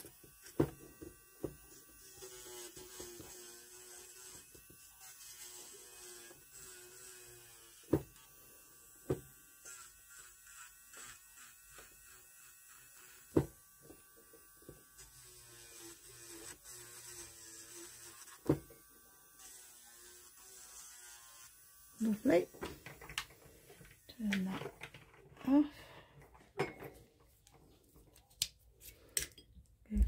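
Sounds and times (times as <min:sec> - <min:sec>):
electric nail drill whine: 0:00.0 - 0:24.3.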